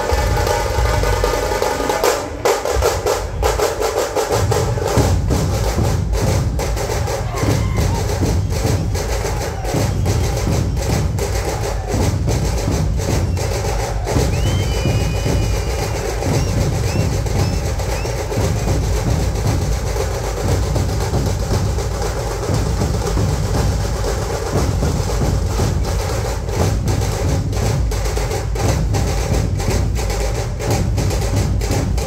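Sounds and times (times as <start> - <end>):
deep barrel drum beats: 0.0 - 32.0.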